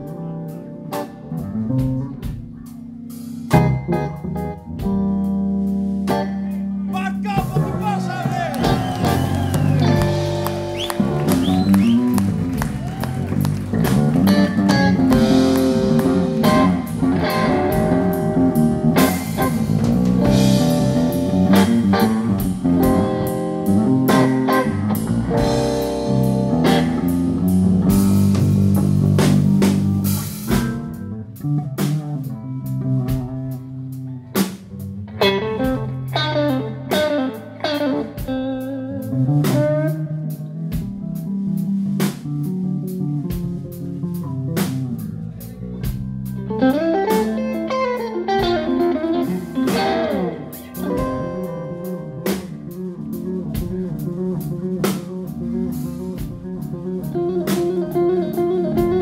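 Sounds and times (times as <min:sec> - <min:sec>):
blues band playing: 0:00.0 - 0:59.0
electric guitar lead lines: 0:00.0 - 0:59.0.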